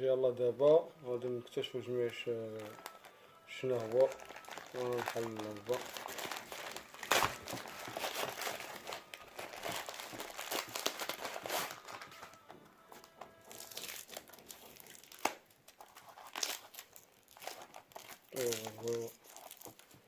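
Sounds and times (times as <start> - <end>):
packaging crinkling and rustling: 1.7 - 20.0.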